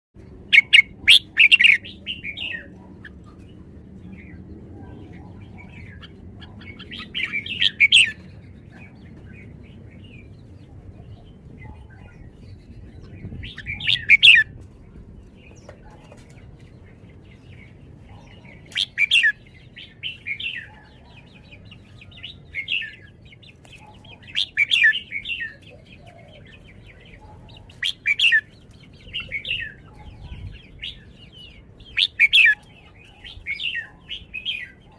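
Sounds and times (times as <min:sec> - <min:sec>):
bird singing chattering phrases: 0:00.2 - 0:14.5, 0:15.3 - 0:34.9.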